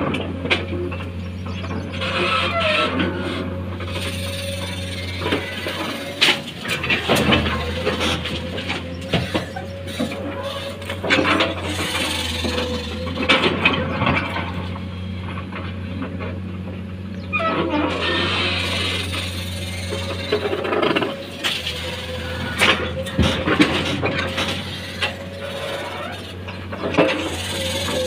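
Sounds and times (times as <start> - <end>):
excavator diesel engine hum: 0.0 - 28.0.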